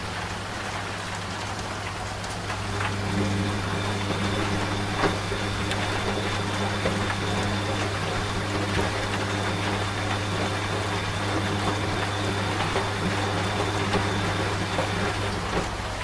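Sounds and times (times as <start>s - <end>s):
falling rain: 0.0s - 16.0s
washing machine humming: 0.0s - 16.0s.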